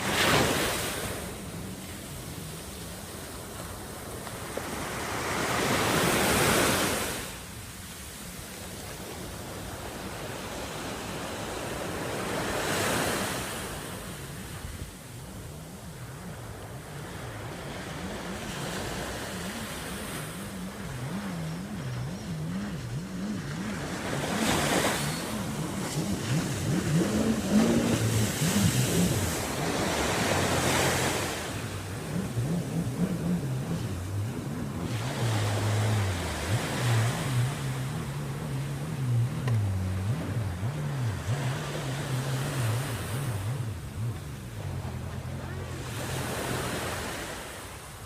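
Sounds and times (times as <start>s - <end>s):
low engine hum: 0.0s - 48.0s
sea waves washing onto beach: 0.0s - 48.0s.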